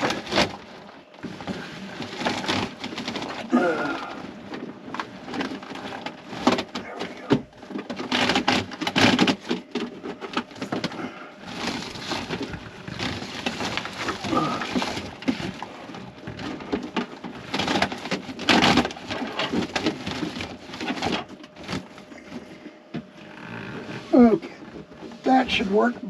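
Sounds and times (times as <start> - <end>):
wiring and hose scraping: 0.0 - 26.0.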